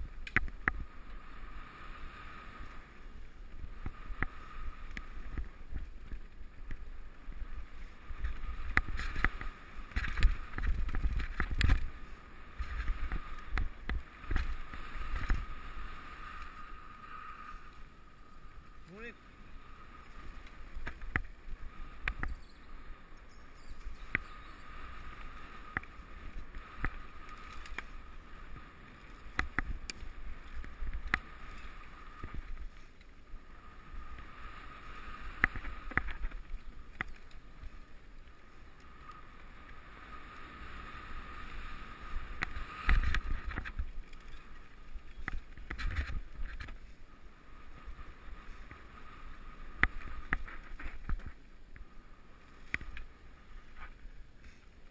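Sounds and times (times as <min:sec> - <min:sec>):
bike clicks and rattles: 0:00.0 - 0:01.2, 0:03.1 - 0:18.8, 0:20.1 - 0:47.0, 0:48.3 - 0:51.8
tyre rumble and wind on microphone: 0:00.0 - 0:54.9.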